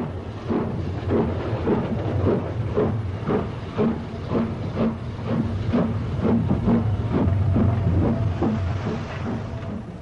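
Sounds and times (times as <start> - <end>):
steam locomotive exhaust beats: 0.0 - 10.0
train rumble: 0.0 - 10.0.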